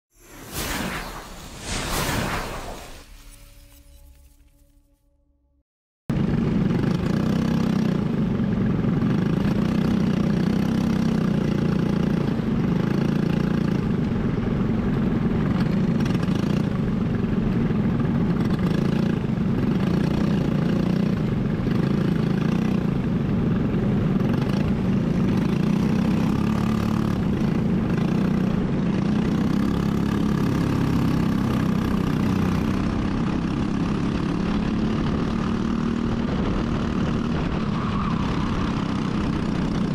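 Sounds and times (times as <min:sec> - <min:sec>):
kart engine running steadily: 0:06.1 - 0:39.9.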